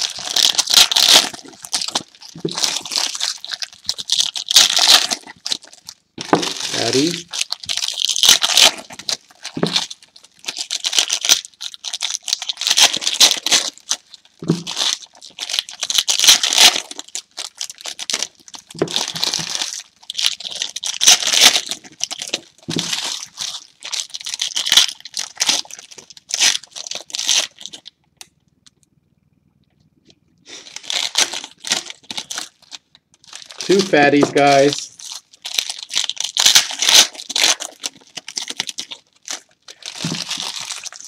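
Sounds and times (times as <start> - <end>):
foil wrappers tearing and crinkling: 0.0 - 27.9, 30.5 - 41.0.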